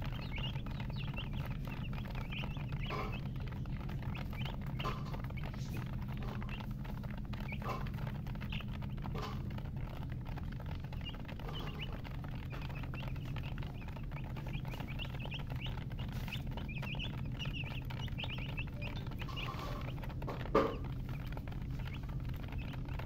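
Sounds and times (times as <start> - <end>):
baby chicks peeping: 0.0 - 23.0
low hum: 0.0 - 23.0.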